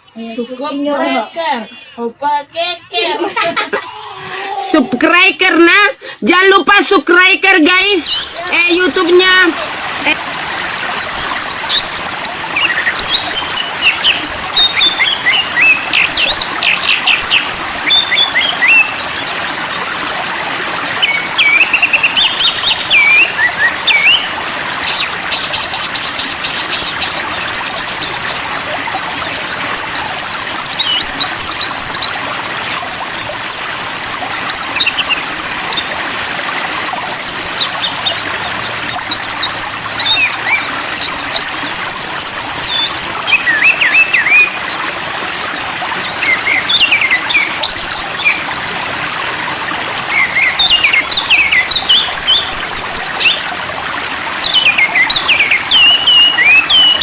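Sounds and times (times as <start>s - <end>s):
flowing water: 0.0s - 57.0s
songbirds chirping: 7.4s - 36.1s, 36.7s - 57.0s.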